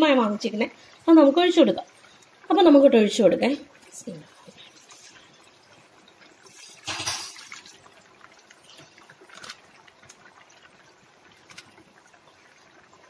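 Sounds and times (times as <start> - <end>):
milk trickling and splashing into pan: 0.2 - 13.0.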